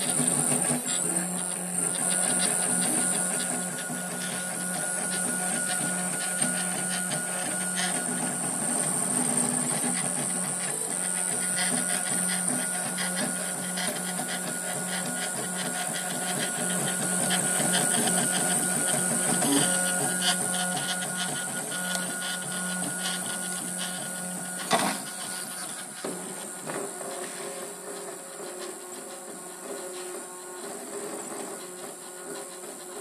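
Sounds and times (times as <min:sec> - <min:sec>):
stepper motors humming and ticking: 0:00.0 - 0:33.0.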